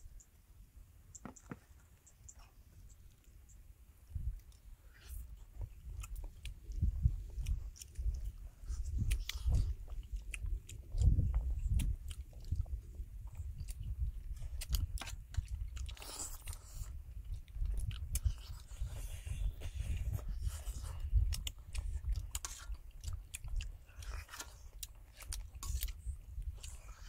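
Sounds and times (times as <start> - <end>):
people chewing food: 1.1 - 27.0.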